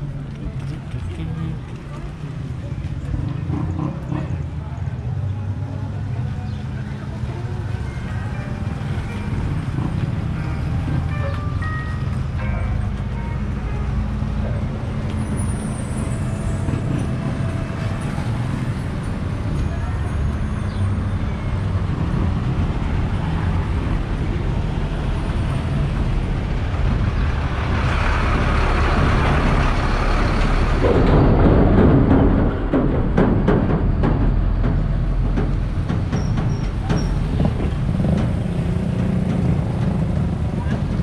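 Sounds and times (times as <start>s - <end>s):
road traffic rumble: 0.0s - 41.0s
truck passing close by: 7.0s - 41.0s.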